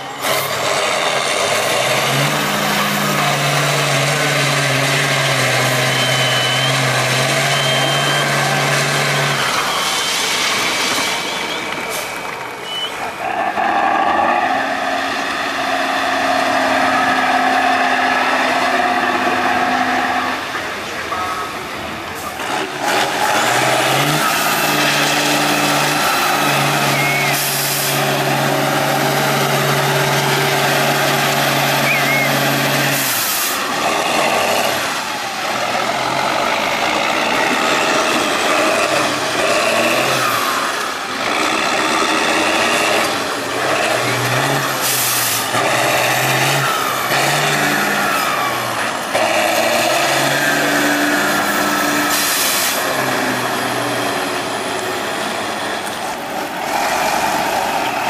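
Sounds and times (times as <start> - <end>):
truck diesel engines revving: 0.0 - 58.0.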